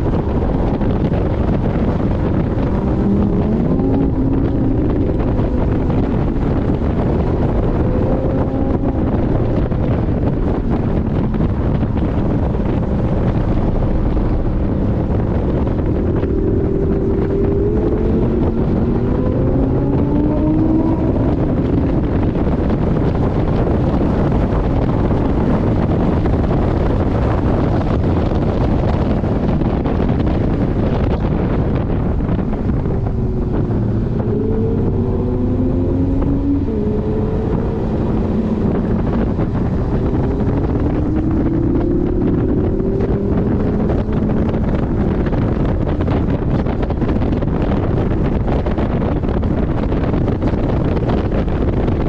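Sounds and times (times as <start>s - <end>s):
car engine revving: 0.0s - 52.0s
wind and road noise: 0.0s - 52.0s.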